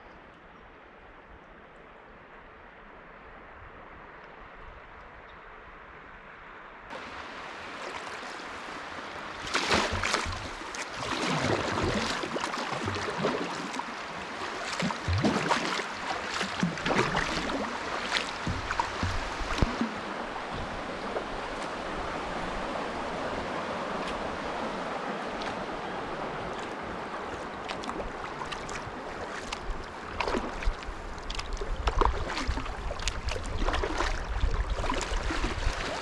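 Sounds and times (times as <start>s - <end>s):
kayak paddle splashing: 6.9s - 36.0s
water rushing: 6.9s - 36.0s.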